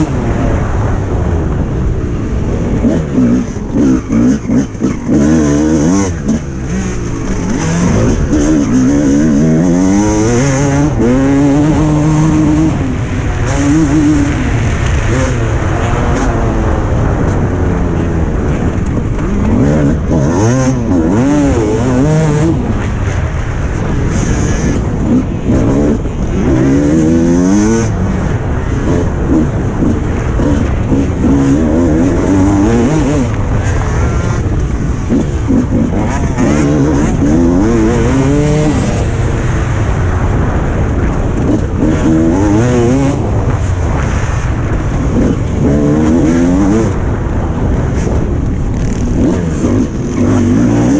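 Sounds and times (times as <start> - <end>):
two-stroke motocross bike engine: 0.0 - 50.9.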